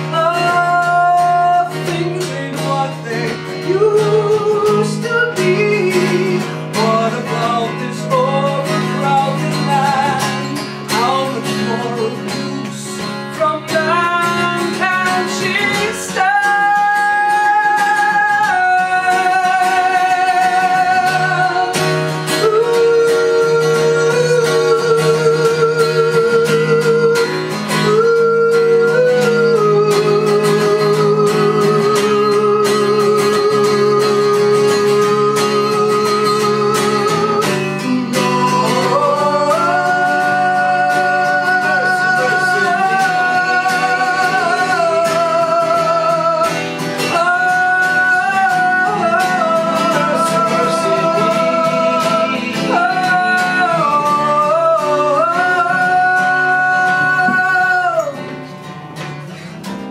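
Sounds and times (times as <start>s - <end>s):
woman singing with vibrato: 0.0s - 58.3s
strummed acoustic guitar: 0.0s - 59.9s.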